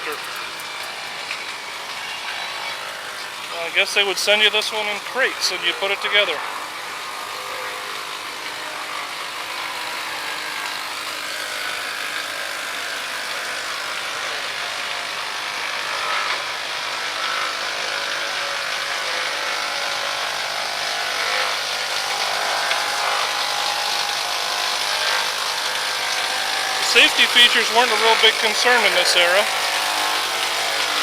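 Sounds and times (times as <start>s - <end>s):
tractor engine and gearing running: 0.0s - 31.0s.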